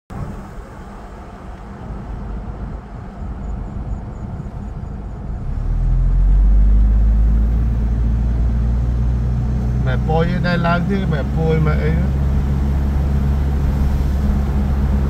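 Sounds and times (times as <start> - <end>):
car engine and road rumble: 0.1 - 15.0
low engine hum: 0.1 - 15.0.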